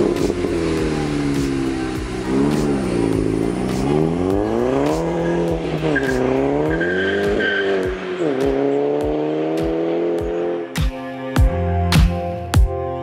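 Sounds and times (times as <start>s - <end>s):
car engine revving and accelerating: 0.0s - 10.8s.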